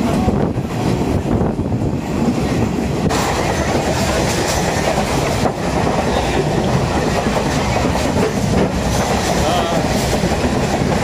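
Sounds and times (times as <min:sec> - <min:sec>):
train clattering: 0:00.0 - 0:11.0
train wheels on rails: 0:00.0 - 0:11.0.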